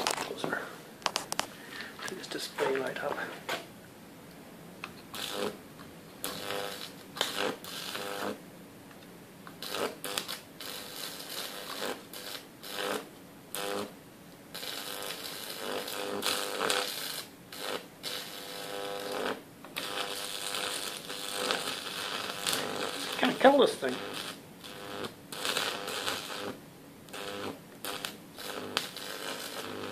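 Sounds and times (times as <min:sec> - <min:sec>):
crackling electric arc buzz: 0:00.0 - 0:00.4, 0:05.0 - 0:08.4, 0:09.4 - 0:29.9.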